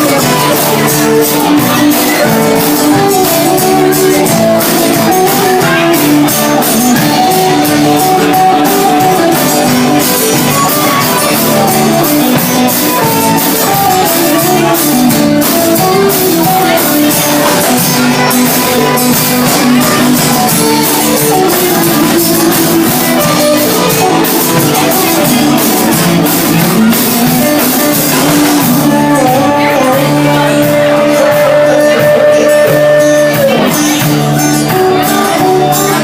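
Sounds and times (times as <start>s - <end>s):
drums and cymbals: 0.0s - 36.0s
electric guitar: 0.0s - 36.0s.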